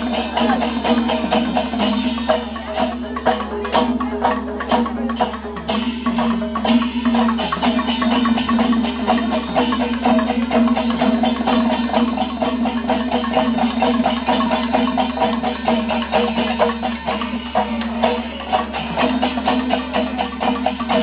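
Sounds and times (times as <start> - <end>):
temple drum ensemble drumming: 0.0 - 21.0.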